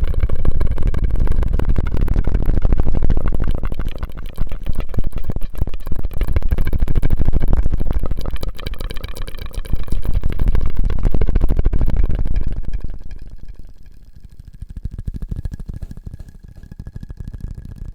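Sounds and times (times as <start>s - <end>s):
wet mouth clicks and pops: 0.1s - 17.9s.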